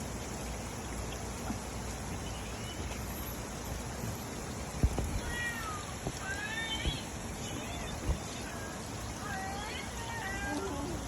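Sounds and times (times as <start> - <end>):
rain falling: 0.0 - 11.0
water drips: 0.0 - 11.0.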